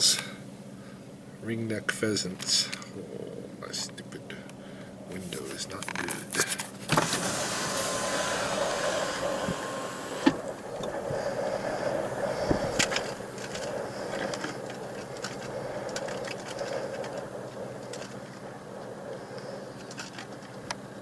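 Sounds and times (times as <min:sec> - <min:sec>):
engine and road hum: 0:00.0 - 0:21.0.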